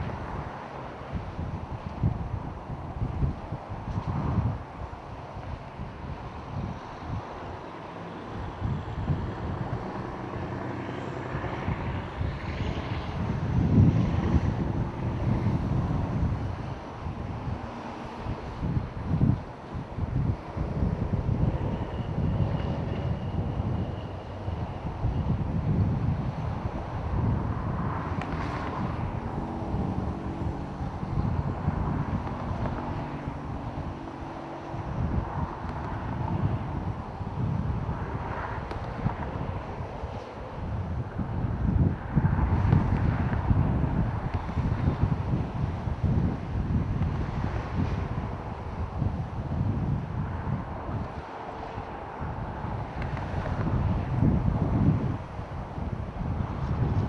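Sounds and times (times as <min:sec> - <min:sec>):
jet plane passing overhead: 0:00.0 - 0:57.0
wind buffeting microphone: 0:00.0 - 0:57.0.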